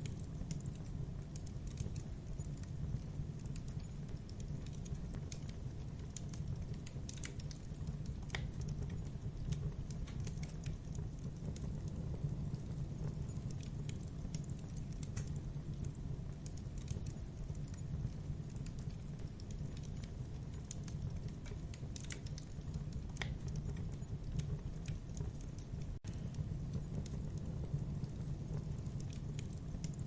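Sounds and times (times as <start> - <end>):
campfire crackling and popping: 0.0 - 30.0
low rumble of flames: 0.0 - 30.0.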